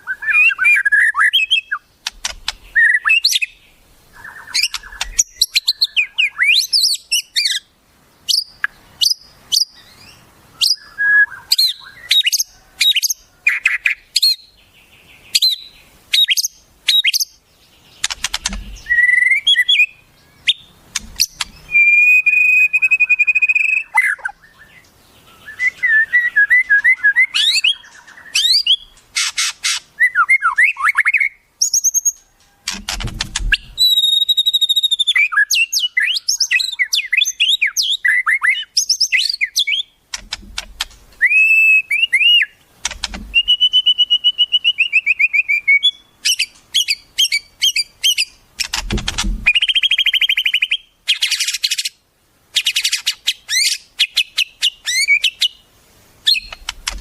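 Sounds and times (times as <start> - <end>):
harsh rasping bird calls: 0.0 - 57.0
songbird chirps and whistles: 0.0 - 57.0.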